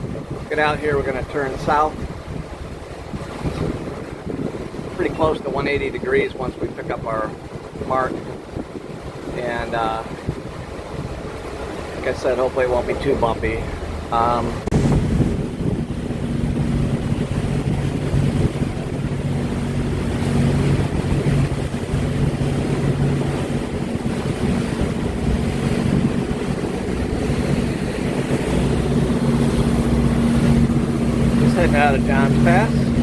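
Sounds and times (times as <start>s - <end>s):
motorboat engine droning: 0.0s - 33.0s
water rushing past hull: 0.0s - 33.0s
wind buffeting microphone: 0.0s - 33.0s.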